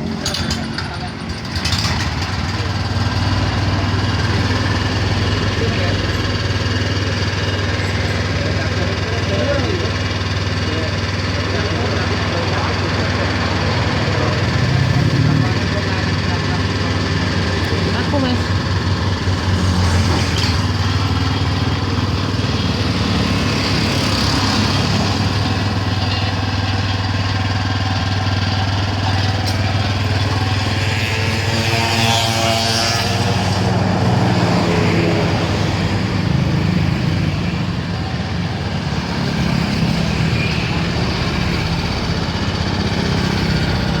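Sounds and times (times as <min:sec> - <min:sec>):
petrol engine running steadily: 0:00.0 - 0:44.0.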